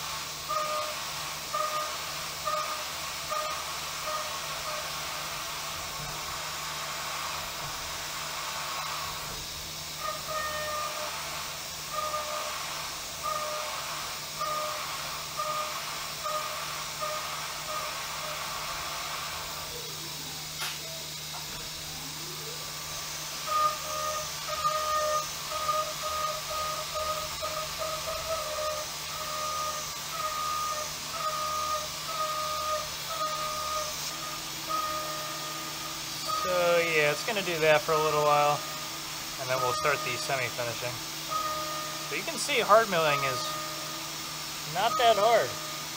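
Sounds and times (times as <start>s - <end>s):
short high cutter tones: 0.0s - 19.8s, 22.3s - 45.9s
air blast hiss: 0.0s - 45.9s
milling spindle hum: 0.0s - 45.9s.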